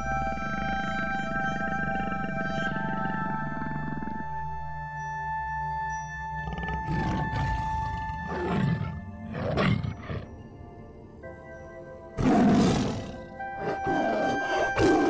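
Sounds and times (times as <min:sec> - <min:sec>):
background music of sustained tones: 0:00.0 - 0:15.0.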